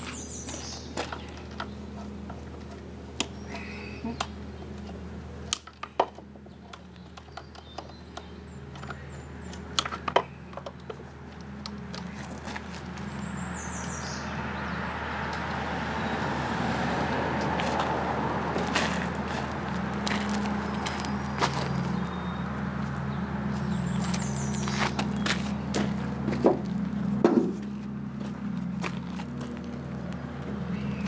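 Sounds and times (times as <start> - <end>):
low engine-like hum: 0.0 - 31.0.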